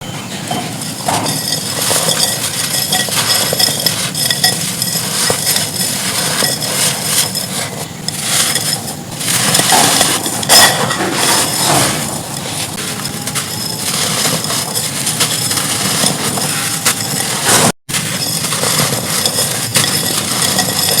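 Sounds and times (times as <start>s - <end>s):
dry clay crumbling and crunching: 0.7s - 21.0s.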